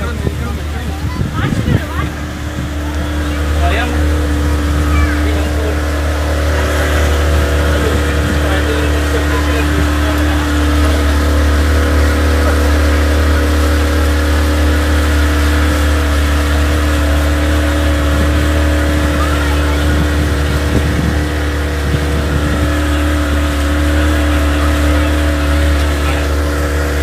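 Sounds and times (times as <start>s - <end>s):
boat engine humming: 0.0s - 27.0s
water rushing past hull: 0.0s - 27.0s.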